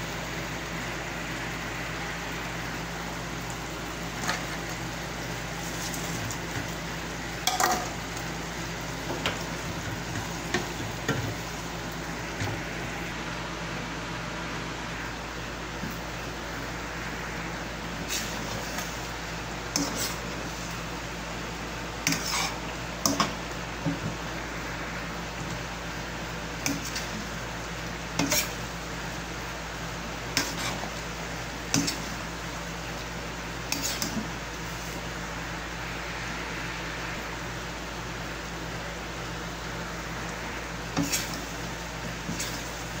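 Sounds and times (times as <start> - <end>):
sauce sizzling in a frying pan: 0.0 - 13.1, 15.6 - 36.4, 37.2 - 43.0.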